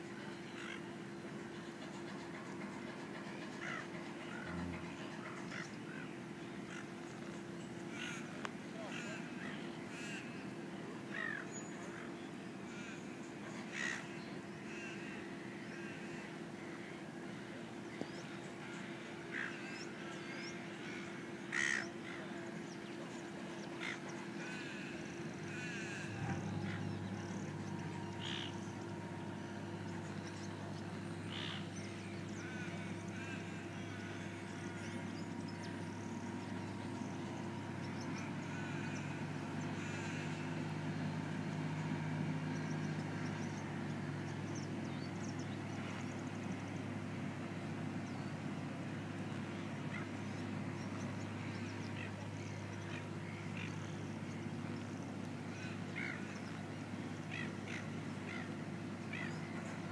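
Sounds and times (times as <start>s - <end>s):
low machinery drone: 0.0s - 59.9s
steady mechanical hum: 0.0s - 59.9s
bird calls: 0.2s - 10.5s, 11.1s - 59.9s.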